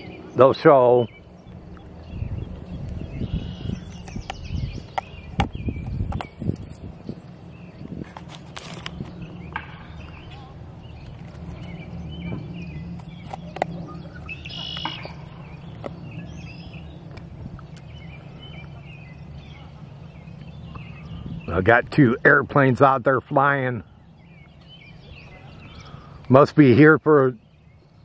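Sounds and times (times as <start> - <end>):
birds chirping: 0.0 - 28.0
distant airplanes droning: 0.0 - 28.0.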